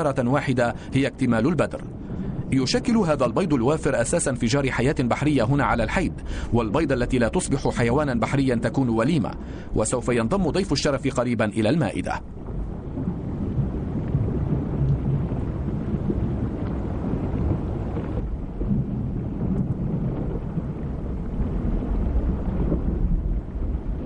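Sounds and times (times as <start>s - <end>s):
underwater rumble of moving water: 0.0s - 24.0s.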